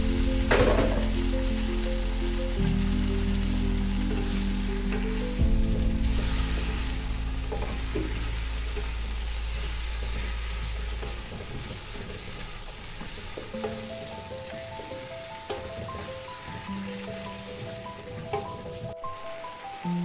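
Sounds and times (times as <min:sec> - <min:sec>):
food sizzling in a pan: 0:00.0 - 0:20.0
music of held notes: 0:00.0 - 0:20.0
stirring in a pan: 0:00.4 - 0:19.0.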